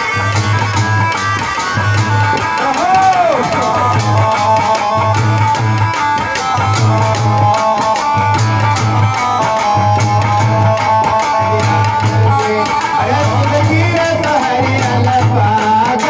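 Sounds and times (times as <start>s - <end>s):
fast drum beat: 0.0s - 16.0s
sustained melody line: 0.0s - 16.0s.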